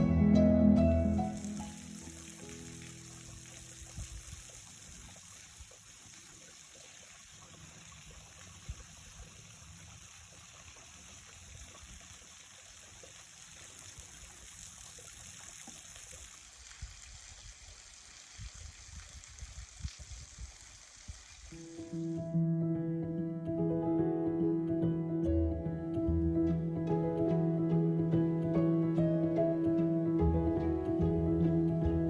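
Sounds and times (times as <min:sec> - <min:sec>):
flowing water rushing: 0:00.0 - 0:22.4, 0:25.5 - 0:32.0.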